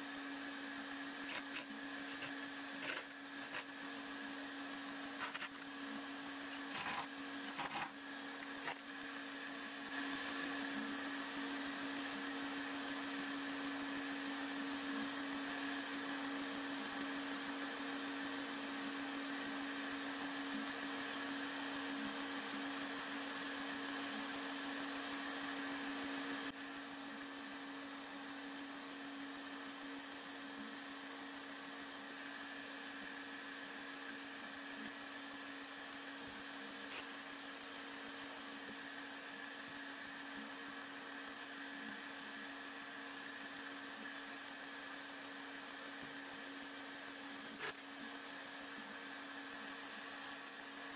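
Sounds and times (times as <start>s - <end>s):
electric motor whirring: 0.0s - 50.9s.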